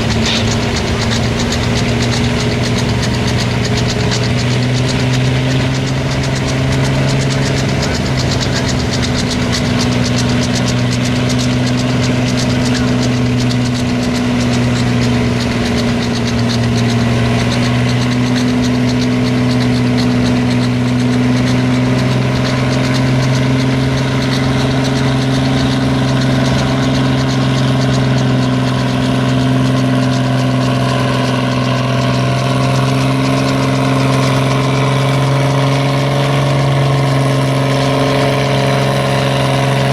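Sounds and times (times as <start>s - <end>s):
tractor engine running loudly: 0.0s - 39.9s.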